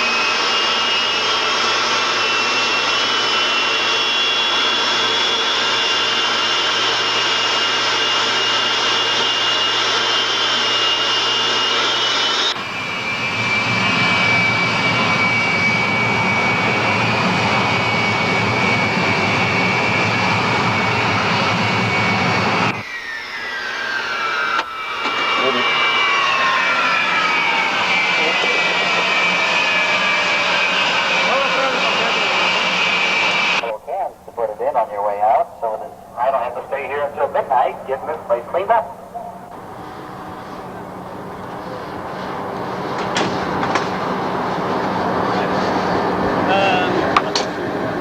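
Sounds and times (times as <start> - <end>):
jet engines whining: 0.0 - 48.0.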